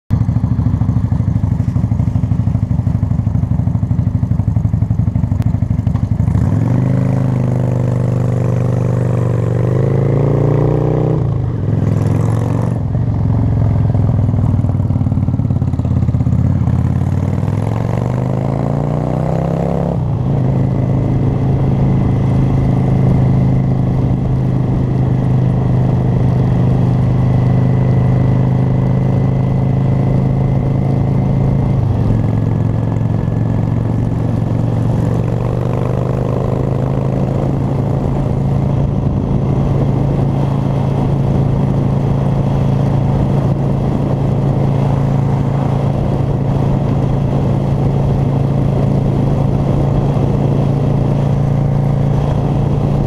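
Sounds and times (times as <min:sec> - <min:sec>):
motorcycle engine accelerating: 0:00.1 - 0:53.0.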